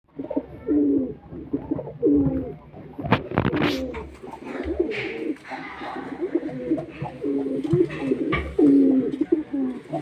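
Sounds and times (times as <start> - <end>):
pigeon cooing: 0.1 - 10.0.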